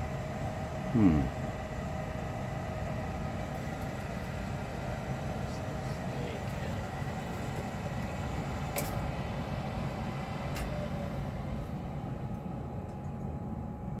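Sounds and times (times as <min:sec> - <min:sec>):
machinery hum and rumble: 0:00.0 - 0:14.0.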